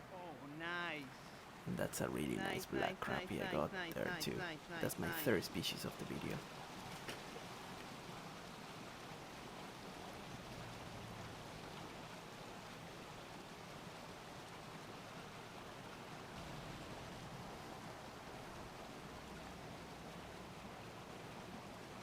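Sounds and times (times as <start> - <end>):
faint flowing water: 0.0 - 22.0.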